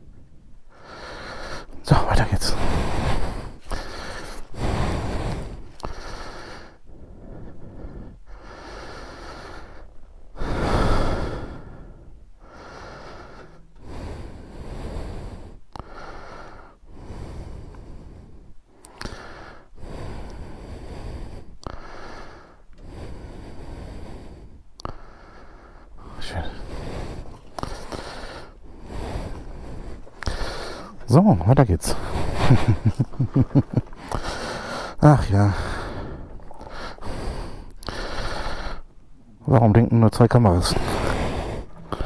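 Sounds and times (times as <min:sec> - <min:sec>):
person breathing noisily: 0:00.7 - 0:39.1, 0:40.4 - 0:42.0.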